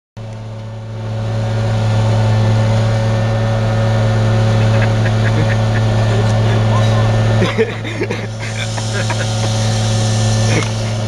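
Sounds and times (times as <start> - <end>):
heavy diesel engines humming: 0.2 - 11.0.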